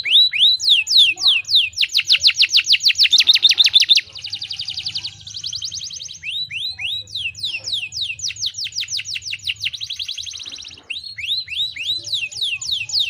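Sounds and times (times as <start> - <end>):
canary singing trills: 0.0 - 13.0.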